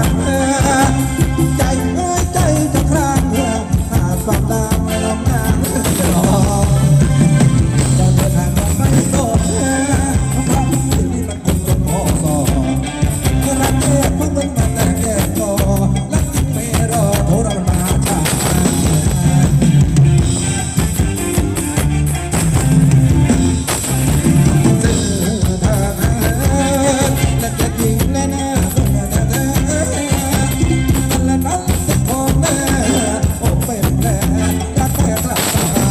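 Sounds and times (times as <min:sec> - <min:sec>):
person singing: 0:00.0 - 0:21.6, 0:24.0 - 0:35.9
drum kit beat: 0:00.0 - 0:35.9
live band dance music: 0:00.0 - 0:35.9.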